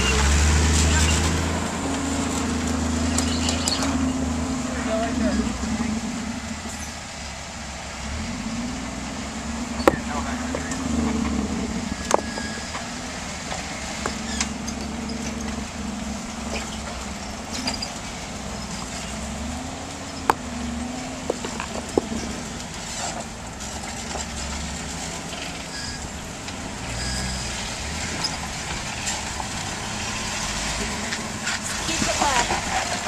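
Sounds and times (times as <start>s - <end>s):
engine running at low revs: 0.0s - 33.0s.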